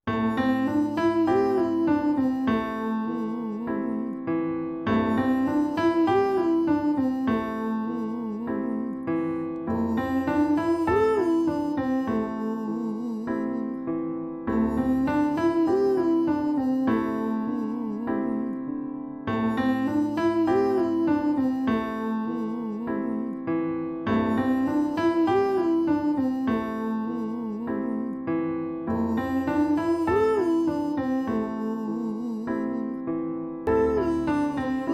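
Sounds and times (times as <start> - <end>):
electric piano chords: 0.0 - 34.9
person singing vocal runs: 0.1 - 4.2, 4.9 - 13.9, 14.5 - 18.6, 19.4 - 23.4, 24.1 - 28.2, 28.9 - 33.0, 33.7 - 34.9.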